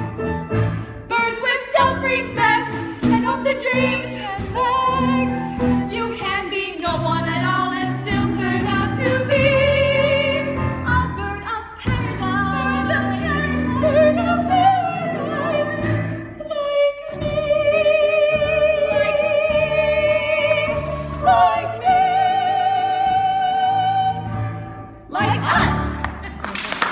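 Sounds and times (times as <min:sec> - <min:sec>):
instrumental accompaniment: 0:00.0 - 0:26.9
women singing together: 0:01.1 - 0:24.2, 0:25.1 - 0:26.2.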